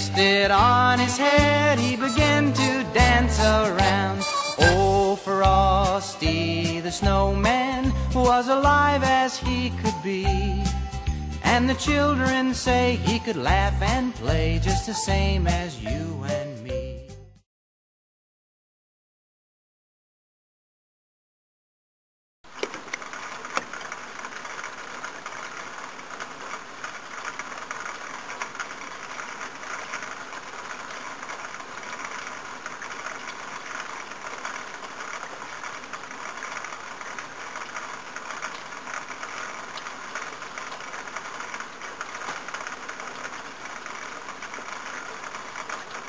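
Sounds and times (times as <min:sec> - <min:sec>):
icy rain pattering: 0:00.0 - 0:15.4, 0:22.4 - 0:46.0.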